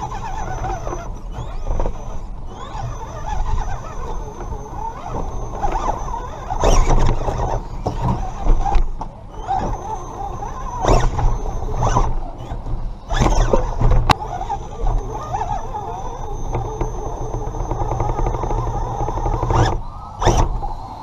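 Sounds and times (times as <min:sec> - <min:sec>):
electric motor and gear whine: 0:00.0 - 0:21.0.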